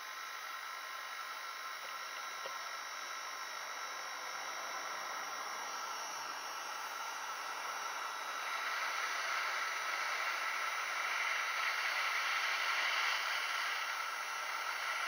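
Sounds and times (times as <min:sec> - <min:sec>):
hot-air gun hissing: 0:00.0 - 0:15.0.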